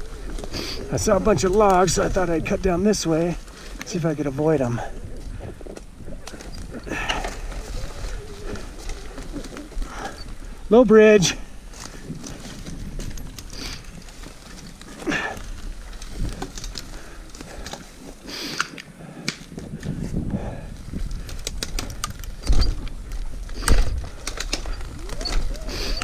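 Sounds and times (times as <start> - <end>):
branches snapping and scraping: 0.0 - 10.7, 11.4 - 26.0.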